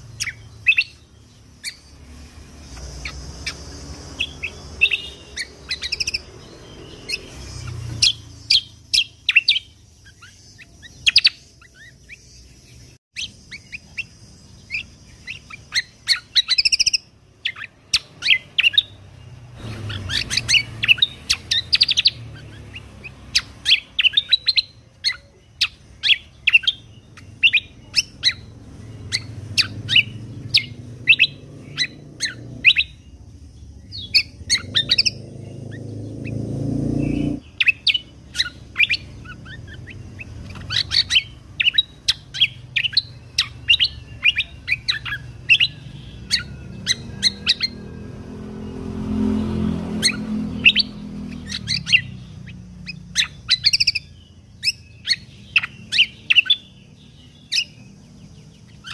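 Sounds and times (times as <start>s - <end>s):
songbird chirping and trilling: 0.0s - 58.9s.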